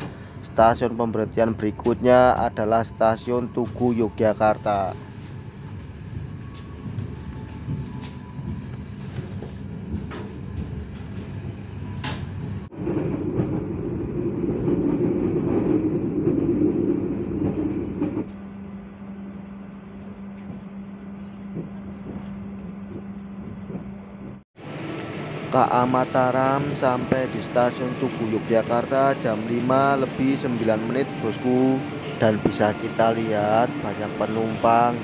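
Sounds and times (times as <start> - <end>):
train coach rumbling on rails: 0.0 - 35.0.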